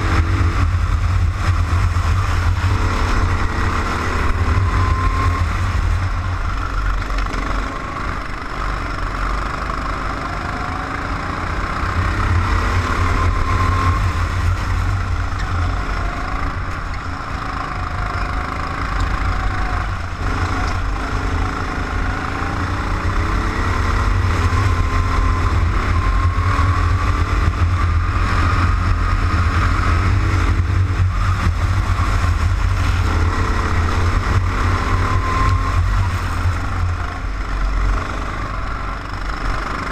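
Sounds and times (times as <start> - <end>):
strong low rumble: 0.0 - 7.5, 11.5 - 17.6, 18.8 - 39.6
go-kart engine: 0.0 - 39.9.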